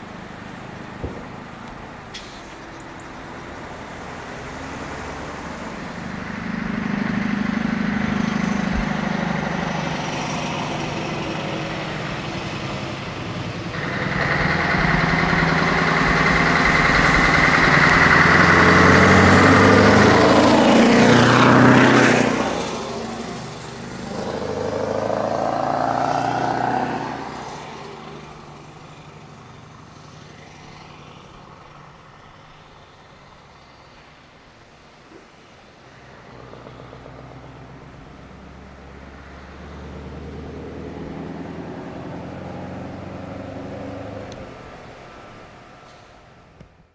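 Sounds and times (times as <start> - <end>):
truck engine pulling away: 0.0 - 46.9.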